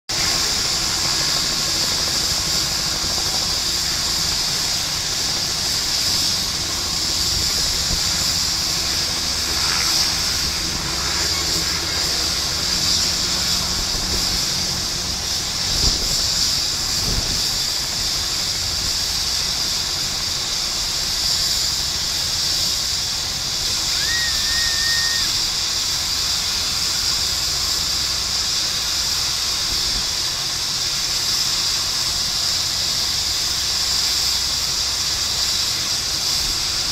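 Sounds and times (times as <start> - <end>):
helicopter turbine whine and hiss: 0.1 - 36.9.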